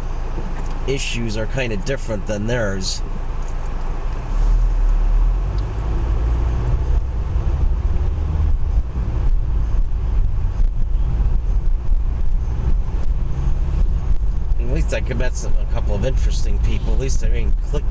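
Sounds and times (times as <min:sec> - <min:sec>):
car engine and road rumble: 0:00.0 - 0:17.9.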